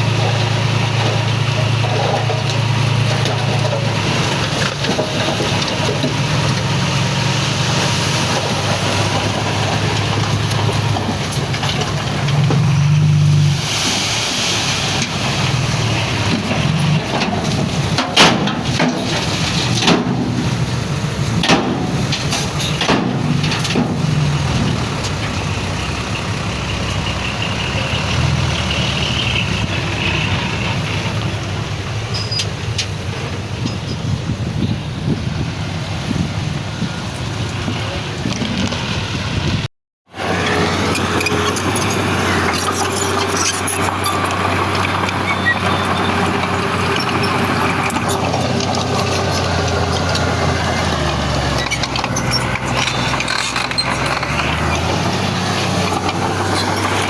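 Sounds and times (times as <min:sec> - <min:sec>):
diesel earthmoving machinery running: 0:00.0 - 0:57.0.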